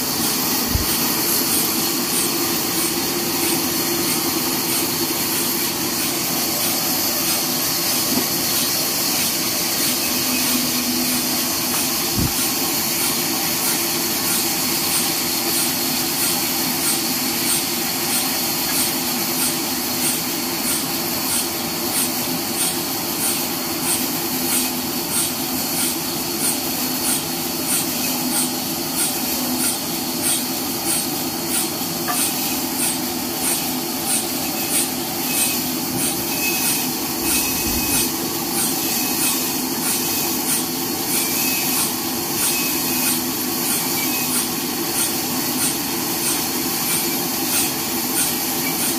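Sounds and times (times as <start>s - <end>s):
bandsaw mill sawing log: 0.0s - 48.9s.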